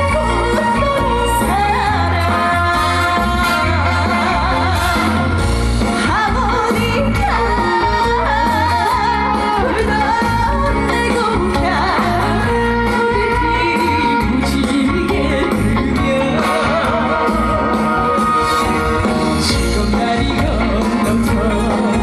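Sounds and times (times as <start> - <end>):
loud backing track: 0.0 - 22.0
woman singing with vibrato: 0.0 - 22.0.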